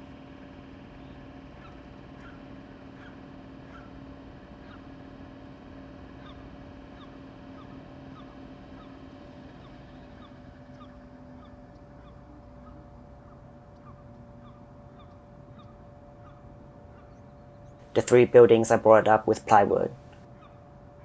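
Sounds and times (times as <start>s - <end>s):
machine hum: 0.0s - 21.0s
small birds chirping: 0.9s - 21.0s.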